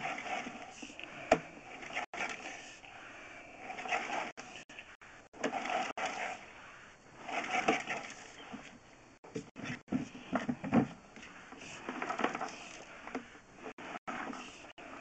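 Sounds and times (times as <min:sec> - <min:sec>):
cable scraping and rubbing: 0:00.0 - 0:03.0, 0:03.6 - 0:08.8, 0:11.2 - 0:15.0.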